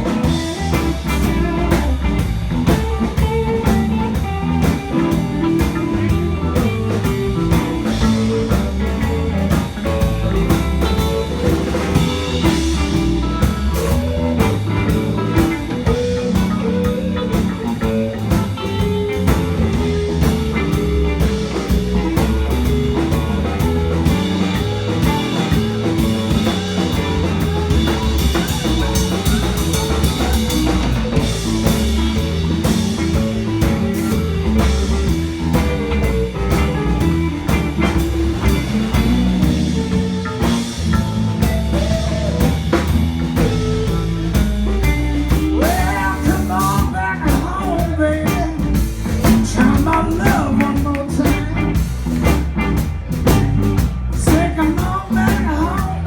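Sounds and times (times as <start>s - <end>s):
blues band playing: 0.0s - 56.0s
guitar: 0.0s - 56.0s.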